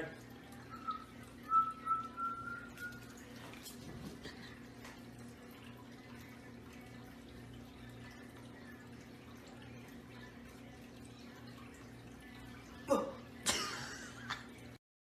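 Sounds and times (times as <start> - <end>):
low electrical hum: 0.0 - 14.8.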